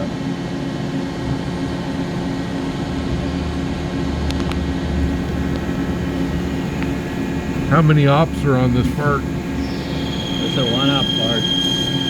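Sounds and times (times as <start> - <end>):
lathe machine hum: 2.3 - 12.0.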